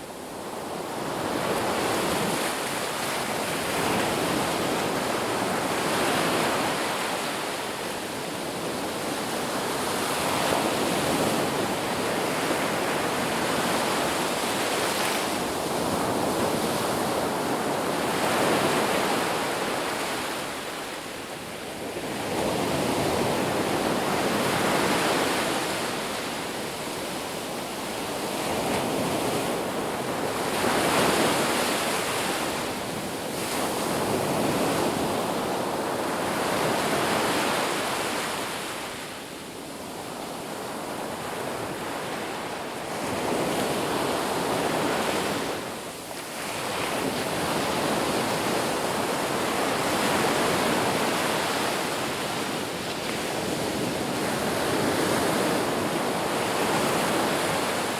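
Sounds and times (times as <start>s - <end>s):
ocean surf on beach: 0.0s - 57.9s.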